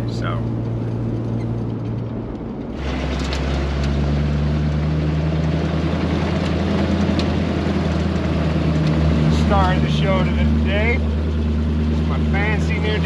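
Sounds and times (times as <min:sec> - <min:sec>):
off-road vehicle engine running: 0:00.0 - 0:13.0
truck cab drone: 0:00.0 - 0:13.0.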